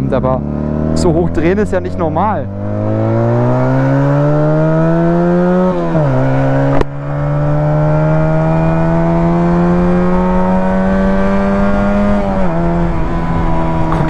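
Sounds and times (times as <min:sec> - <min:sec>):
motorcycle exhaust revving: 0:00.0 - 0:14.0.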